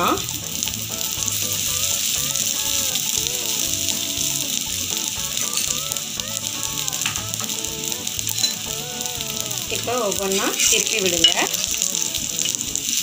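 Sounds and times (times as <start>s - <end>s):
background music: 0.0s - 13.0s
oil sizzling: 0.0s - 13.0s.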